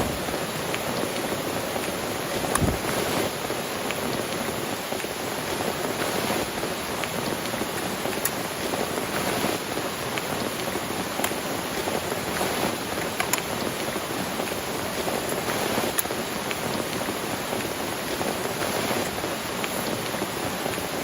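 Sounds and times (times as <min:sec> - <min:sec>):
heavy rain falling: 0:00.0 - 0:21.0
taps of single raindrops: 0:00.0 - 0:21.0.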